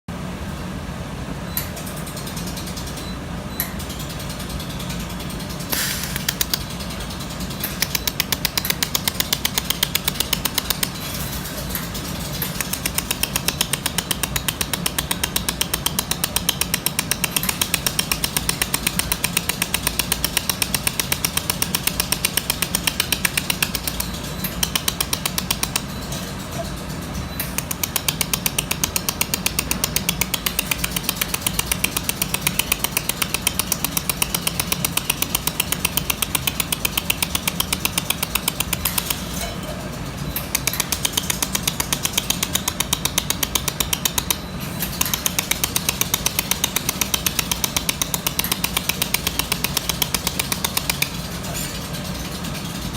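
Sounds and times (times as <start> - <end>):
machine hum: 0.1 - 52.9
laser welder ticking: 3.6 - 39.5, 40.2 - 51.5.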